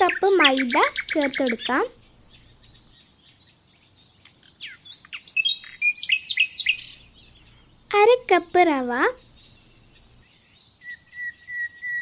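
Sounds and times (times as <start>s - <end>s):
bird singing: 0.0s - 12.0s.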